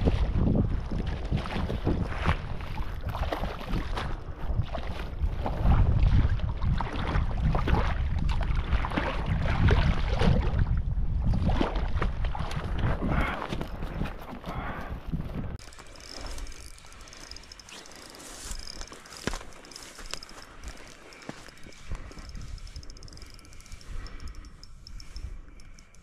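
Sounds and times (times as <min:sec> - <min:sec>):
wind buffeting microphone: 0:00.0 - 0:17.8, 0:18.4 - 0:26.0.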